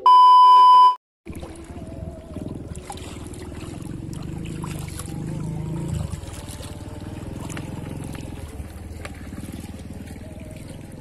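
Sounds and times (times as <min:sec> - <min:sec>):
motorboat engine rumbling: 0:01.3 - 0:11.0.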